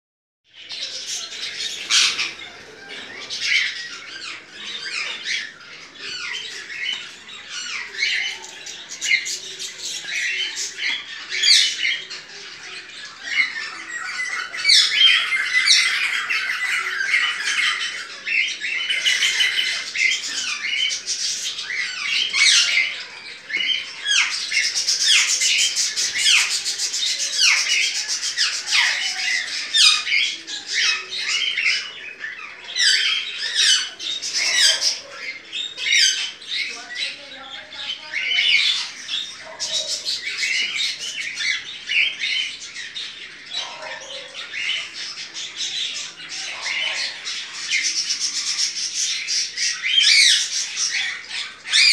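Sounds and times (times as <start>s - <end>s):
blackbirds calling and singing: 0.5s - 51.9s.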